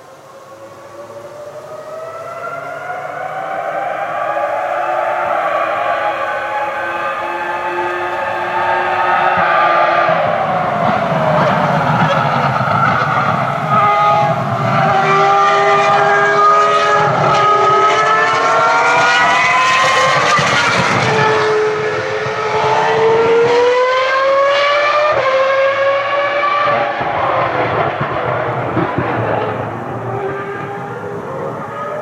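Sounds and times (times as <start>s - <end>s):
distant racing car engine accelerating: 0.0s - 32.0s.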